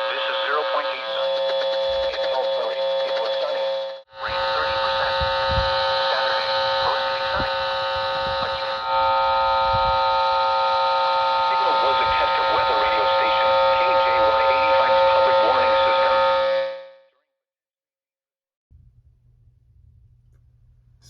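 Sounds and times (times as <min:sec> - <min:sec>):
electrical buzzing hum: 0:00.0 - 0:16.9, 0:18.7 - 0:21.0.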